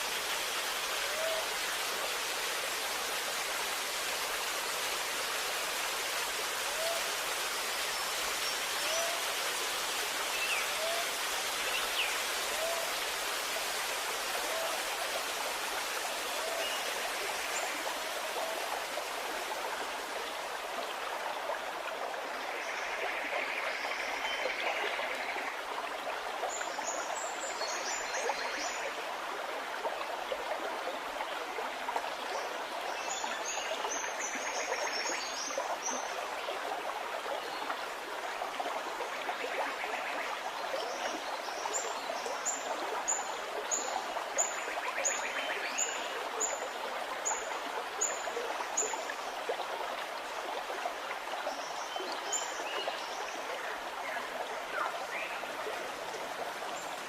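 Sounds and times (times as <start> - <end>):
stream gurgling: 0.0 - 57.0.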